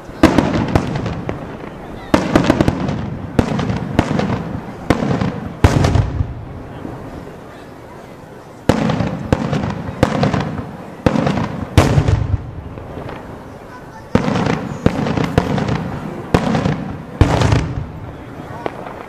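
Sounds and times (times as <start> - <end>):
fireworks bursting with loud bangs: 0.0 - 19.0.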